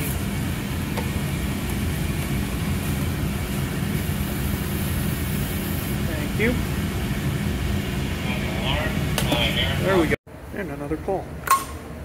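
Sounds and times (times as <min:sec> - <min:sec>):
ventilation machinery humming: 0:00.0 - 0:12.0.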